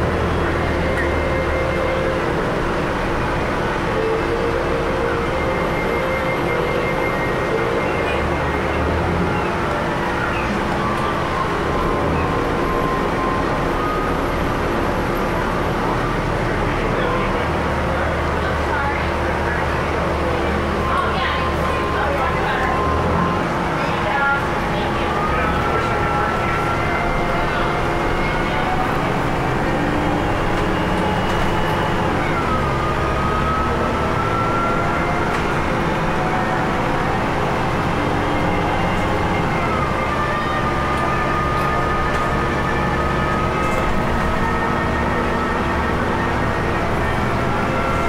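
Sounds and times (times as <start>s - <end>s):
bus engine and road rumble: 0.0s - 48.0s.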